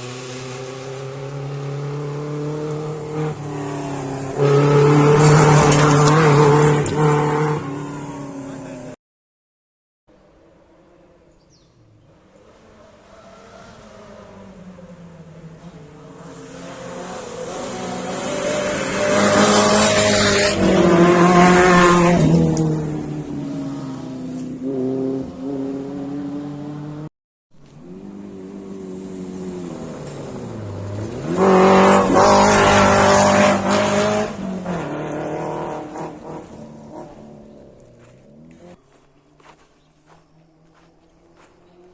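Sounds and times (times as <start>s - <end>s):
rally cars racing past: 0.0s - 9.0s, 10.2s - 38.8s.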